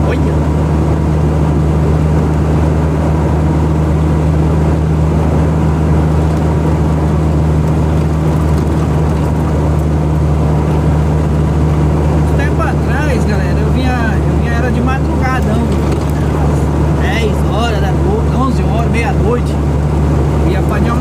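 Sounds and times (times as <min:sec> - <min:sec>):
engine drone and road noise: 0:00.0 - 0:21.0.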